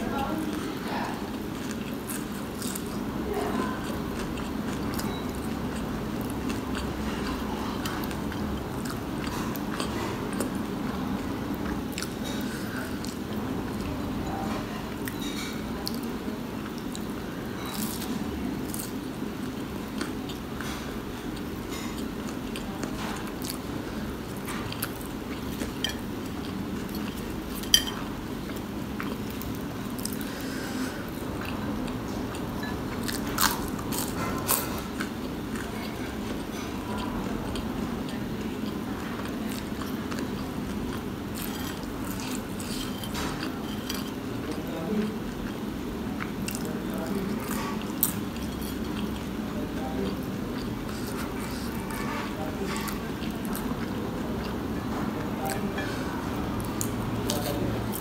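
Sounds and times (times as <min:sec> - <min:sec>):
chewing crispy food: 0:00.0 - 0:58.0
low background noise: 0:00.0 - 0:58.0.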